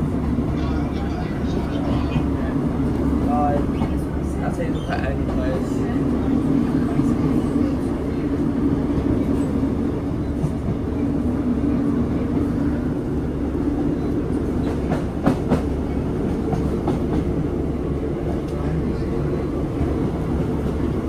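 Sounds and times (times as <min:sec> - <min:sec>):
train engine and wheels drone: 0:00.0 - 0:21.0.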